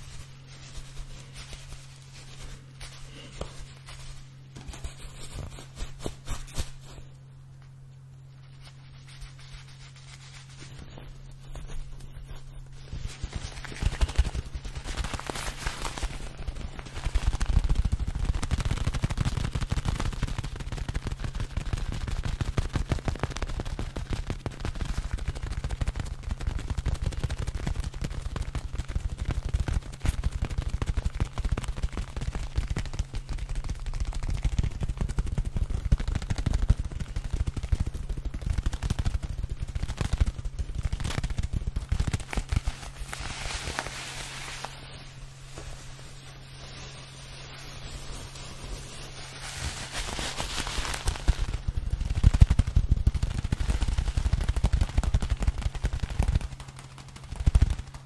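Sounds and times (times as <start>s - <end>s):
fabric balls crackling and crunching: 0.0s - 58.0s.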